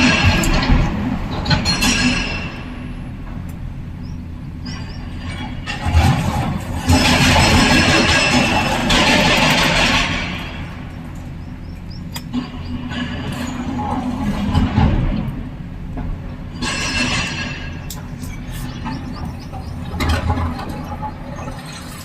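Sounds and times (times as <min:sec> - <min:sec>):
diesel engine of heavy machinery: 0:00.0 - 0:22.0.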